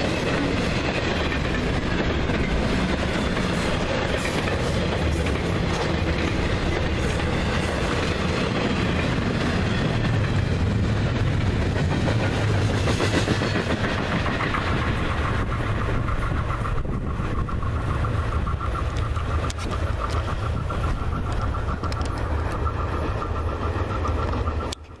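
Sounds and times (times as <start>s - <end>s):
clickety-clack over rail joints: 0.0s - 25.0s
freight train wheels rumbling: 0.0s - 25.0s.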